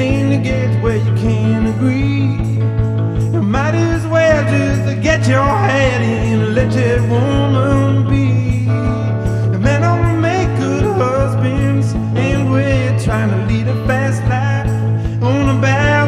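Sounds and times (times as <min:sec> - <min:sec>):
electric guitar blues: 0:00.0 - 0:16.0
wavering harmonica or voice melody: 0:00.0 - 0:16.0.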